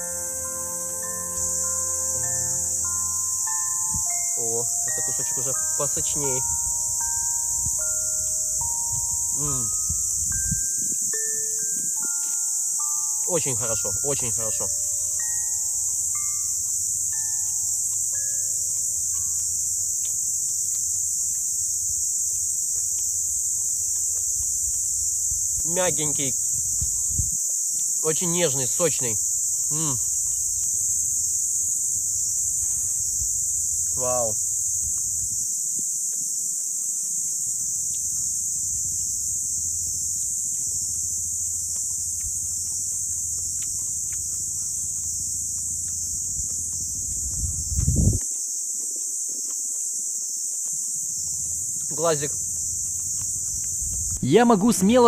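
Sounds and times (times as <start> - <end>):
cicadas shrilling: 0.0 - 55.0
insects droning: 0.0 - 55.0.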